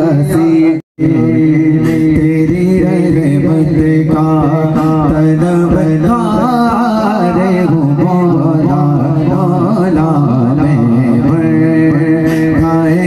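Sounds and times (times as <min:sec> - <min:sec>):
man singing ornamented melody: 0:00.0 - 0:13.0.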